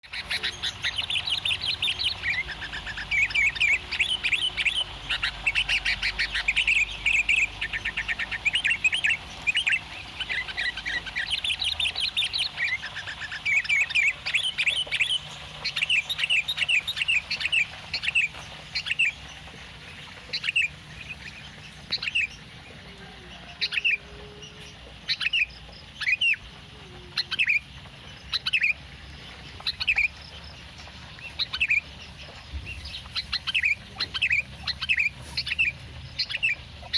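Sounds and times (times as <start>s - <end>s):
bulbul chirping: 0.0s - 22.6s, 23.6s - 36.9s.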